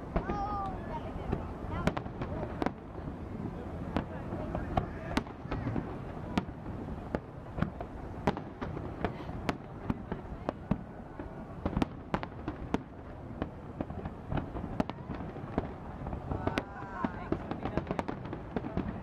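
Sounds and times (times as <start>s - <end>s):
fireworks bursting with sharp bangs: 0.0s - 19.0s
low rumble of explosions: 0.0s - 19.0s.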